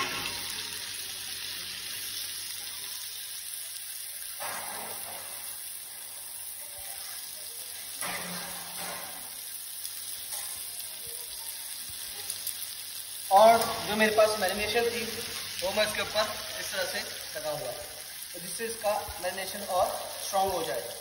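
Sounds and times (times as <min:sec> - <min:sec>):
fish sizzling in oil: 0:00.0 - 0:21.0.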